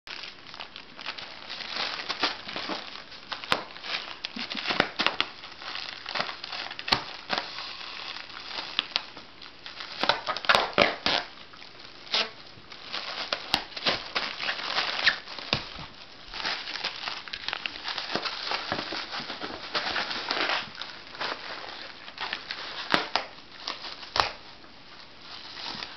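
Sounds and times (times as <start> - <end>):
plastic air pillows crinkling: 0.1 - 25.9.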